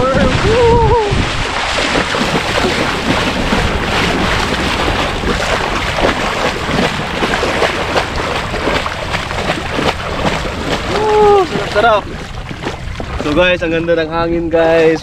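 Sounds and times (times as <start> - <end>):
wading splashes in shallow water: 0.0 - 15.0
wind buffeting microphone: 0.0 - 15.0.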